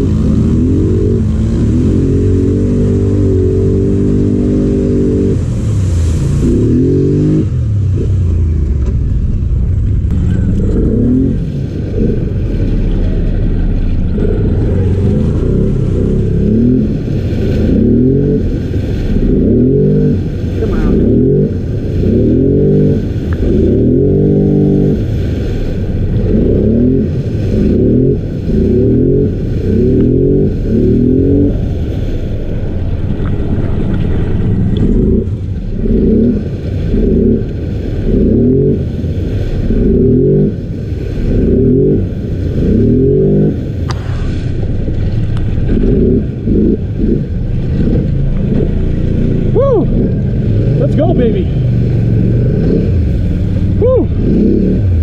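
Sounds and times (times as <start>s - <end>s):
atv engine revving: 0.0s - 55.0s
vehicle pushing through mud and water: 0.0s - 55.0s.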